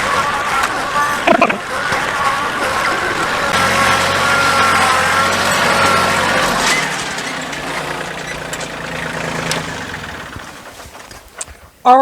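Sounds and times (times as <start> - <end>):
wavering whine: 0.0 - 11.1
machine engine running at low revs: 0.0 - 11.6.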